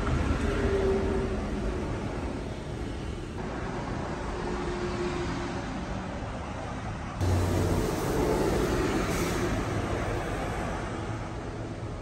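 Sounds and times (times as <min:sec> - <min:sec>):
vehicles passing on road: 0:00.0 - 0:12.0.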